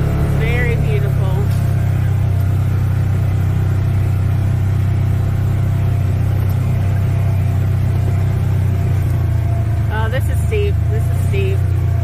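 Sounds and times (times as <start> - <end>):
utv engine droning: 0.0 - 12.0.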